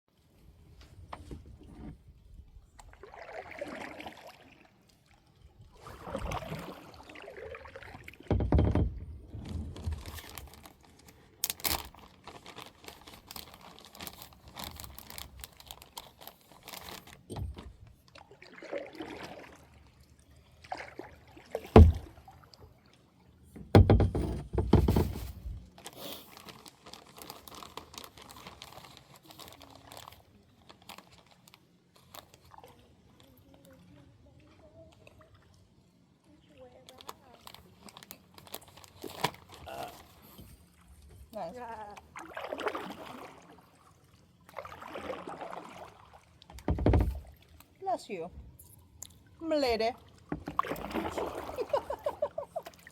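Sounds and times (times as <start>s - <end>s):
water sloshing and splashing: 0.2s - 52.9s.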